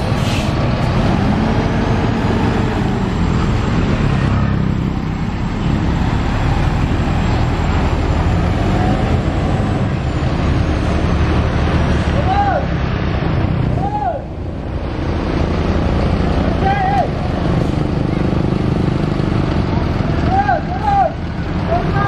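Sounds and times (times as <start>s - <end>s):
bus engine climbing uphill: 0.0s - 22.0s.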